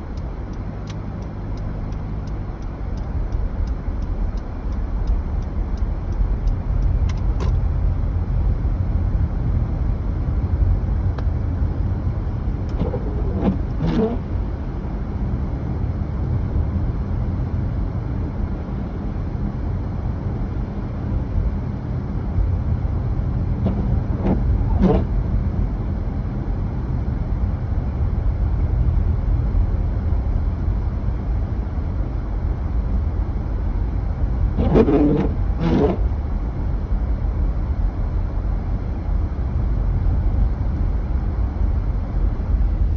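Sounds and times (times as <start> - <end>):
engine and road rumble: 0.0 - 42.9.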